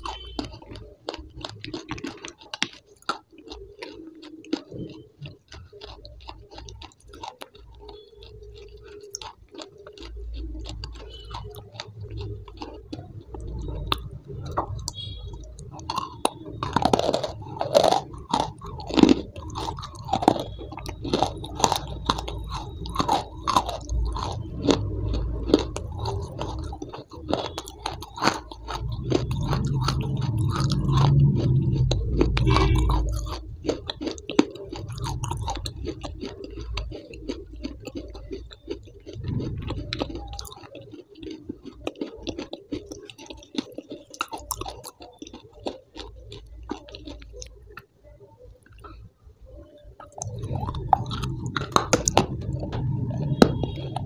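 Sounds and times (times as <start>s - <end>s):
wet mouth clicks: 0.0s - 47.9s, 50.0s - 54.0s
crisp chewing crunches: 0.0s - 54.0s.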